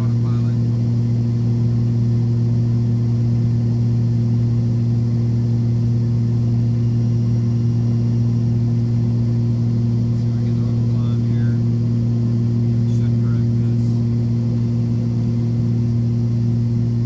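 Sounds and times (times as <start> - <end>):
aircraft engines droning in cabin: 0.0 - 17.0.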